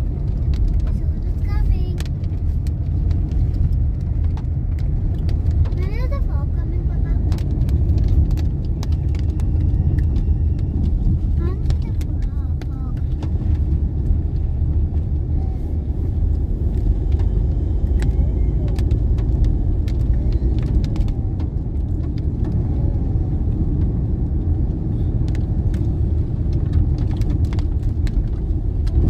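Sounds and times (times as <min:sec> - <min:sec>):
small clicks and rattles: 0:00.0 - 0:15.4, 0:16.2 - 0:29.0
car road and engine rumble: 0:00.0 - 0:29.0.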